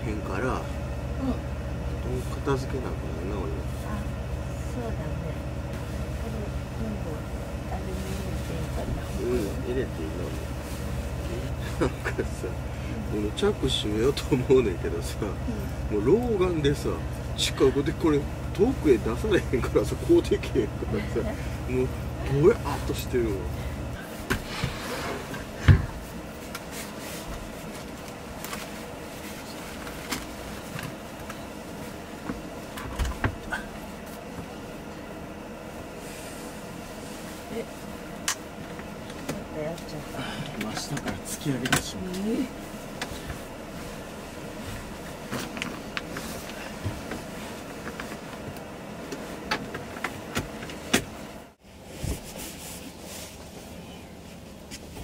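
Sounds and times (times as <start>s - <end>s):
steady low hum: 0.0s - 55.0s
bedding and clothes rustling: 0.2s - 55.0s.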